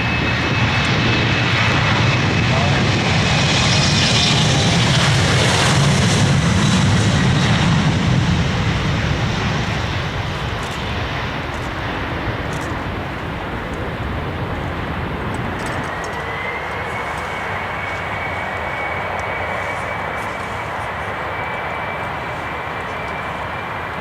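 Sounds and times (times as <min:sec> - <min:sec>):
airliner engines passing: 0:00.0 - 0:24.0
high engine whine: 0:00.0 - 0:24.0.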